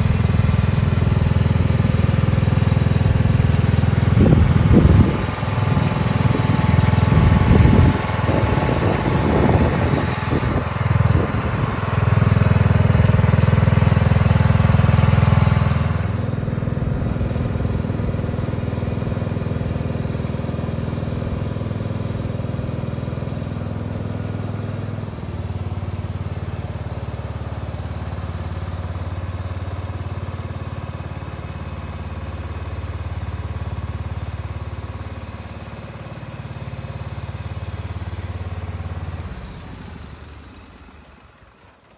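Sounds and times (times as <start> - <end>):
lawn tractor engine running: 0.0 - 41.9.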